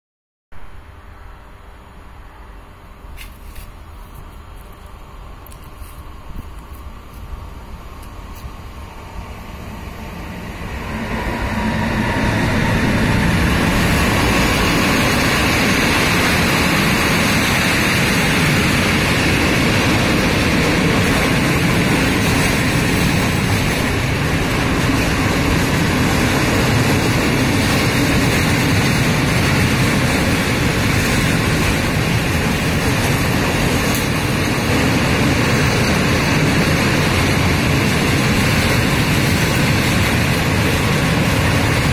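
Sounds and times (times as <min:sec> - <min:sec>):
freight train wheels rolling: 0:03.0 - 0:41.9.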